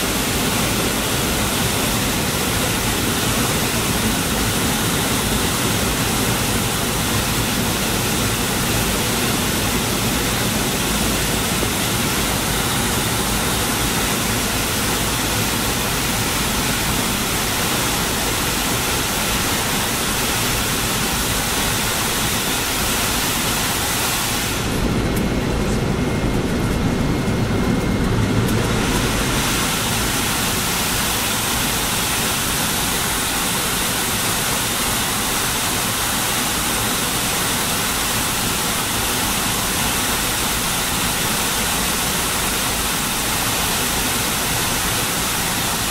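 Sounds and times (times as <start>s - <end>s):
airplane cabin airflow and engine noise: 0.0s - 45.9s.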